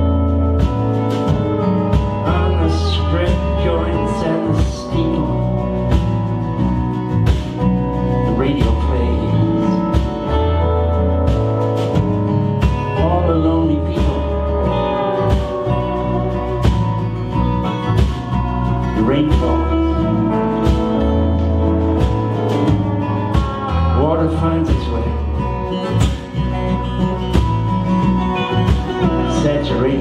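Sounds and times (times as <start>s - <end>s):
gliding lead guitar notes: 0.0s - 30.0s
live band playing country-folk: 0.0s - 30.0s.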